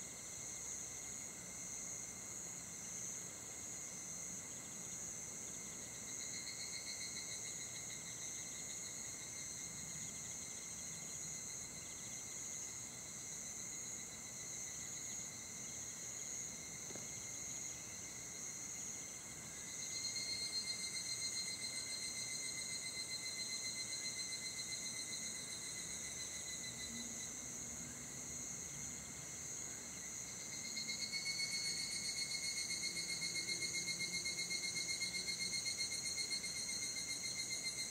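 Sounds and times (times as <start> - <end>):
insects trilling: 0.0 - 37.9
pulsing insect trill: 5.7 - 37.9.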